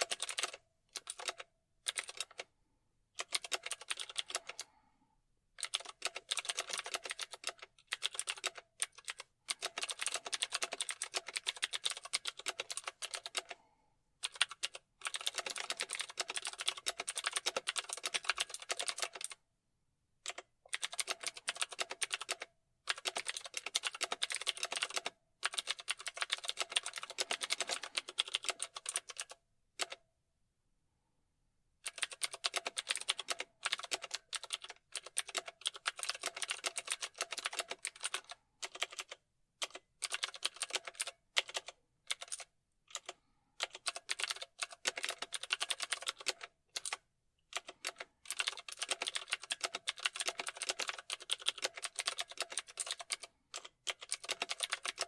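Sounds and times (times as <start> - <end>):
typing on keyboard: 0.0 - 2.5, 3.2 - 4.7, 5.6 - 13.6, 14.2 - 19.4, 20.2 - 30.0, 31.8 - 55.0.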